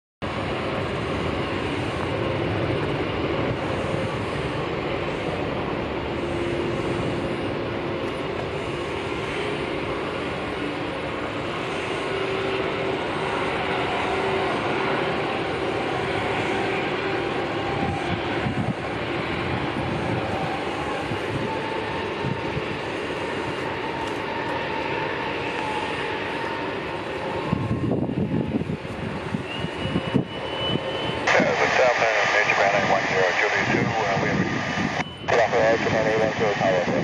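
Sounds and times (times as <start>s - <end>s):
jet engines running: 0.2s - 37.0s.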